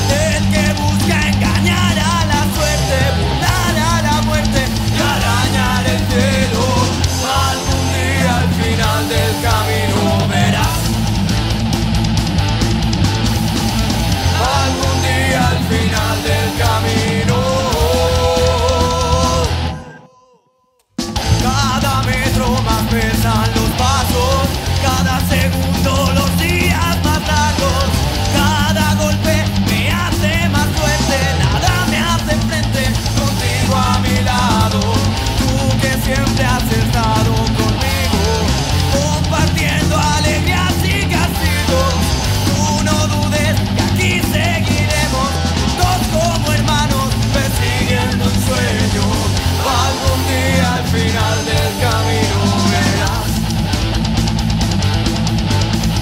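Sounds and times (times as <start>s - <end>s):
loud punk metal band playing: 0.0s - 20.0s, 21.0s - 56.0s.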